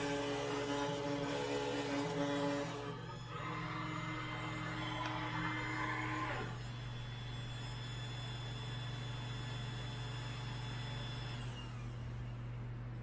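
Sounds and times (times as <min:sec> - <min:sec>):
router spindle high whine: 0:00.0 - 0:13.0.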